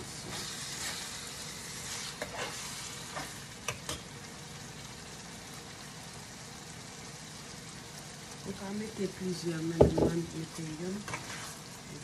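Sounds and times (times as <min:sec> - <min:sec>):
meat and vegetables sizzling in a pan: 0:00.0 - 0:12.0.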